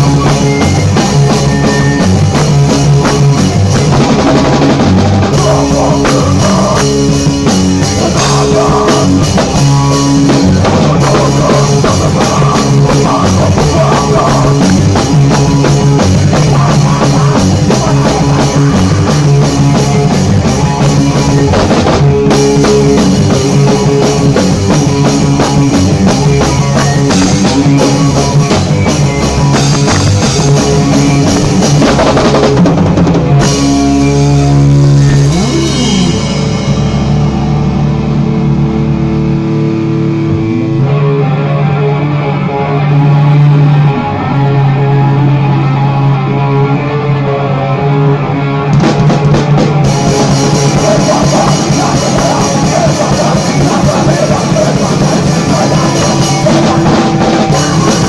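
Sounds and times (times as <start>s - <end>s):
drum kit playing: 0.0s - 41.2s, 48.7s - 58.0s
electric bass: 0.0s - 58.0s.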